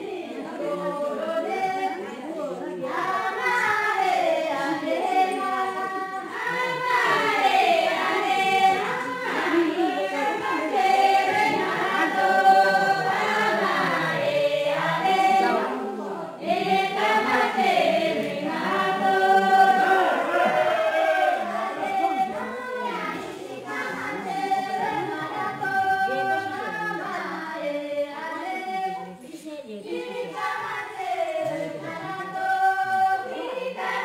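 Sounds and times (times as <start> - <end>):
group of voices singing: 0.0 - 34.0.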